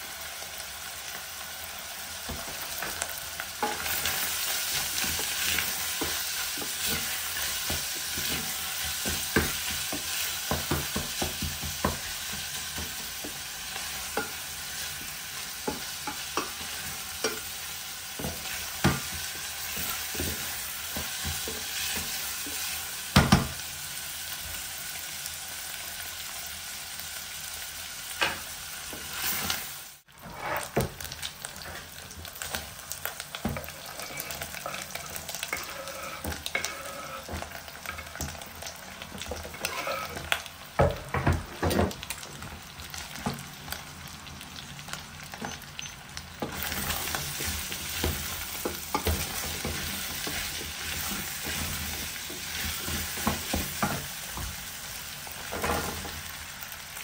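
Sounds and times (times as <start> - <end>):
onion and meat sizzling: 0.0 - 57.0.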